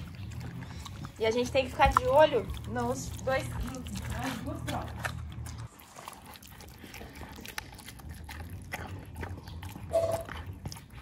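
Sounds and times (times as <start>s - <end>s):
dog eating wet food: 0.0s - 11.0s.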